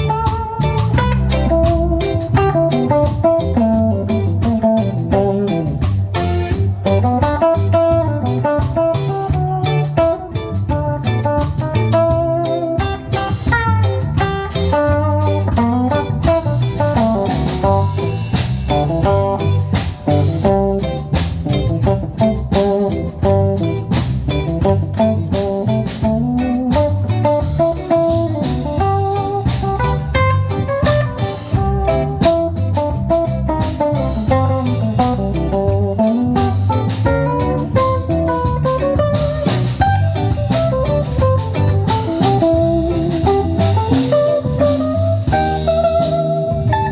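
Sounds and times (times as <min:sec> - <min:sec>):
bass guitar: 0:00.0 - 0:46.9
drum kit: 0:00.0 - 0:46.9
electric guitar melody: 0:00.0 - 0:46.9.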